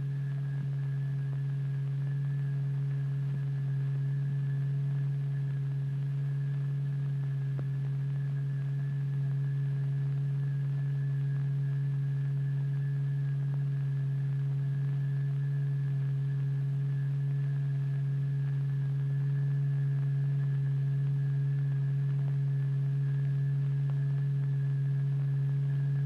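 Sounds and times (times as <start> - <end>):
low pure sine tone: 0.0 - 26.0.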